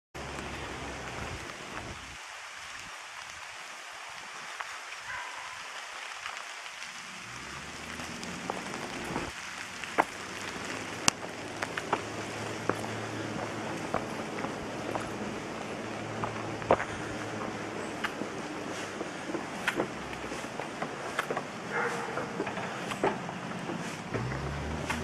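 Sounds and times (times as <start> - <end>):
rain on foliage: 0.2 - 25.0.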